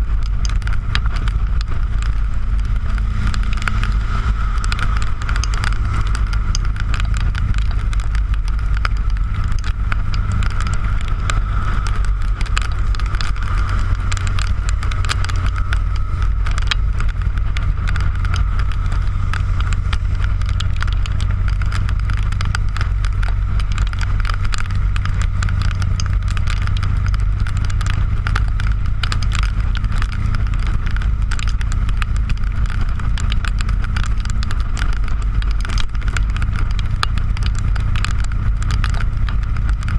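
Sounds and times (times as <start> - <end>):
motorcycle engine rumbling: 0.0 - 39.9
raindrops clicking on camera: 0.0 - 39.9
wind noise: 0.0 - 39.9.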